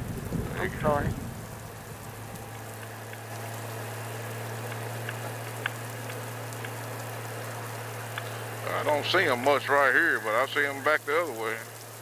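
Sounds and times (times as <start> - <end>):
rain hissing against helmet: 0.0 - 12.0
sharp raindrop ticks: 0.0 - 12.0
steady low hum: 0.0 - 12.0.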